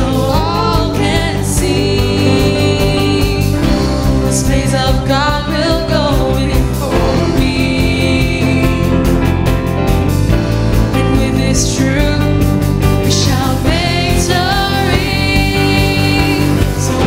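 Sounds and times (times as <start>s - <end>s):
upbeat rock worship song: 0.0s - 17.0s.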